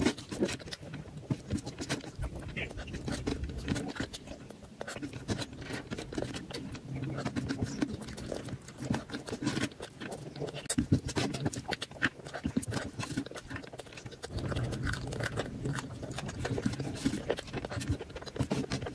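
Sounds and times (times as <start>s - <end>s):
lip smacks and mouth clicks: 0.0s - 18.9s
wet chewing: 0.0s - 18.9s.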